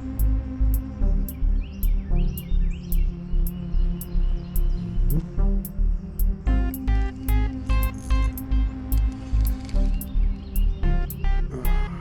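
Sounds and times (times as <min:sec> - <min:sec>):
ticking hi-hats: 0:00.0 - 0:12.0.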